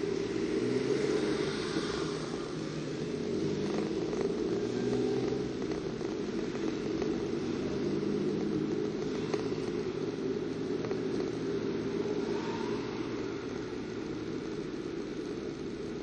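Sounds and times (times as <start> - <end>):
car engine drone: 0.0 - 16.0
tyres on road: 0.0 - 16.0.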